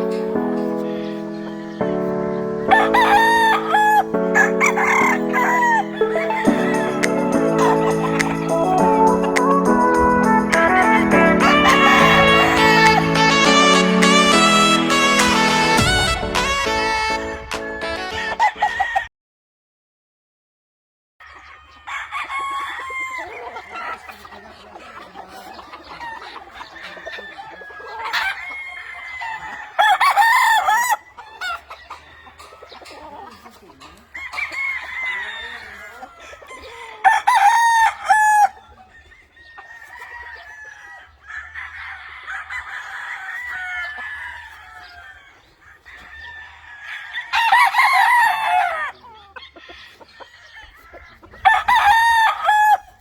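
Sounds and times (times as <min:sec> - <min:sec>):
chickens clucking: 0:00.0 - 0:19.1, 0:21.2 - 0:53.0
roosters crowing: 0:00.0 - 0:19.1, 0:21.2 - 0:53.0.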